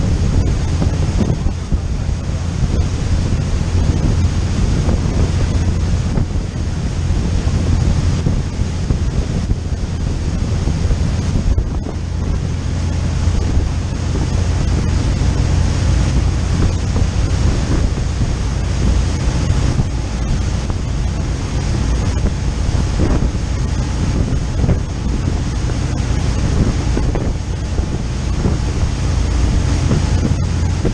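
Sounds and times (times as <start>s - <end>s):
boat wake rushing: 0.0s - 30.9s
low rumble: 0.0s - 30.9s
wind buffeting microphone: 0.0s - 30.9s.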